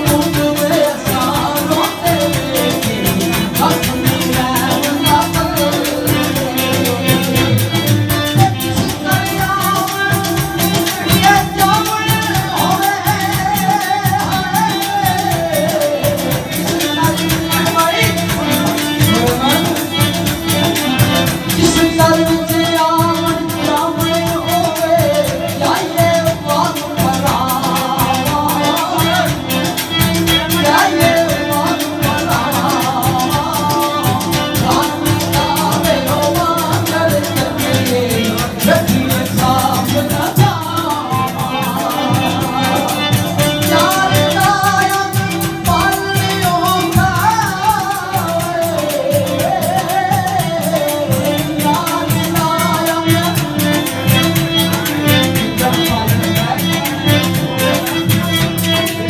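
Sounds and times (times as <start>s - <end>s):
instrumental accompaniment with beat: 0.0s - 59.0s
man singing through microphone: 0.0s - 59.0s.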